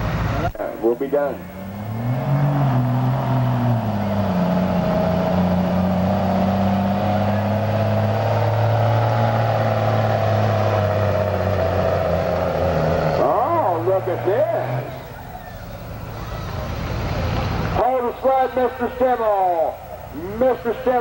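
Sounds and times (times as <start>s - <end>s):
diesel truck engine at high revs: 0.0s - 21.0s.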